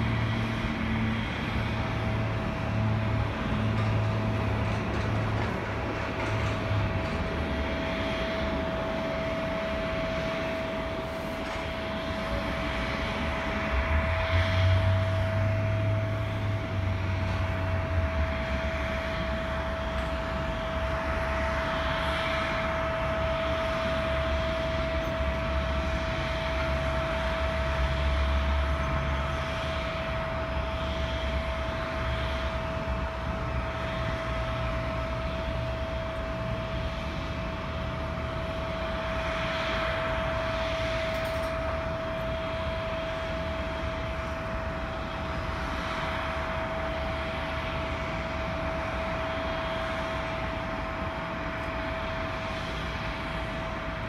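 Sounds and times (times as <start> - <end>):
jet airliner engine whine: 0.0 - 54.0.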